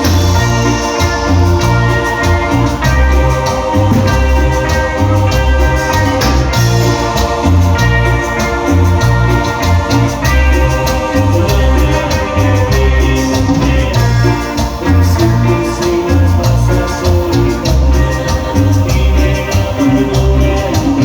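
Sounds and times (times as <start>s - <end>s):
latin dance band music: 0.0s - 21.0s.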